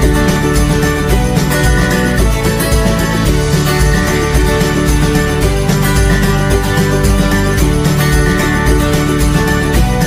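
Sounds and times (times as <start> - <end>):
plucked-string tune with beat: 0.0 - 10.0.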